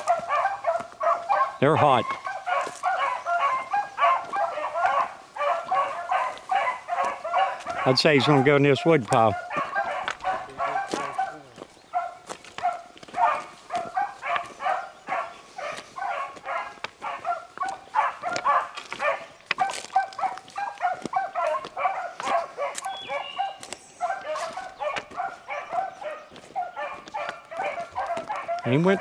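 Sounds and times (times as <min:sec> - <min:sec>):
pack of dogs baying: 0:00.0 - 0:29.0.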